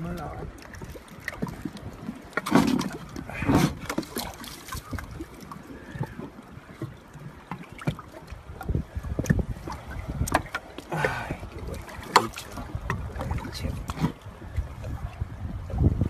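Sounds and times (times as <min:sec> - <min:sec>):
water sounds: 0:00.0 - 0:16.0
wind on microphone: 0:00.0 - 0:16.0.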